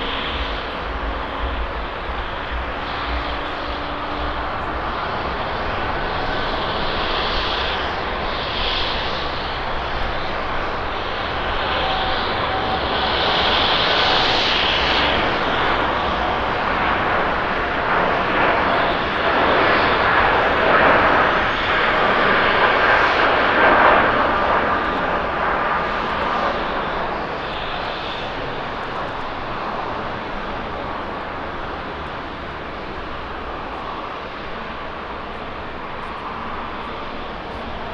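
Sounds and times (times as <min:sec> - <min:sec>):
jet engines at takeoff: 0:00.0 - 0:37.9.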